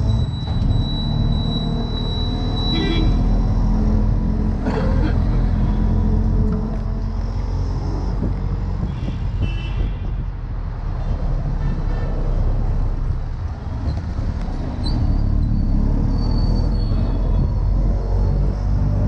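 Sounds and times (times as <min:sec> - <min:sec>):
city traffic: 0:00.0 - 0:19.0.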